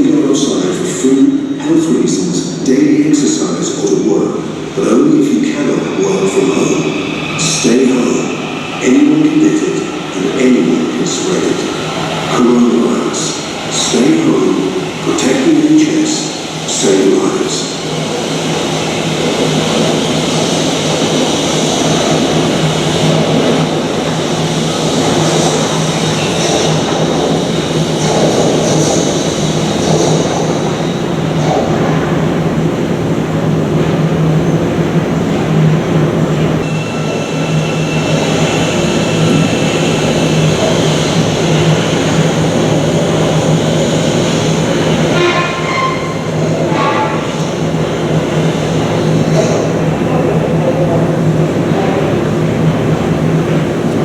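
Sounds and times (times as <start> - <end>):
electric train humming: 0.0 - 54.0.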